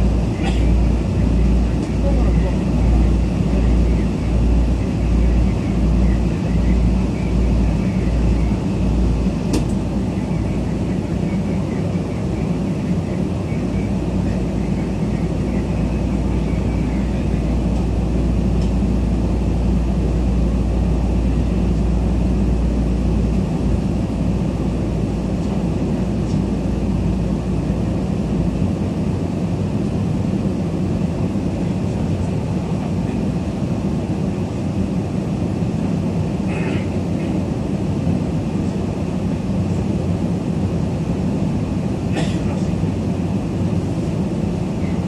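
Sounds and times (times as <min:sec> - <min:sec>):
train cabin rumble: 0:00.0 - 0:45.0.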